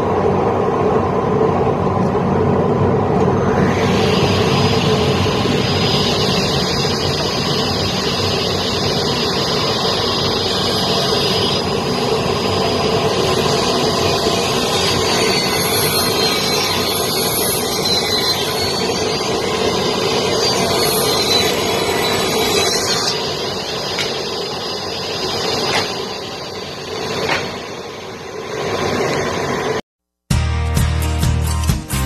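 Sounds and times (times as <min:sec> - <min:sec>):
circular saw whining: 0:00.0 - 0:29.8.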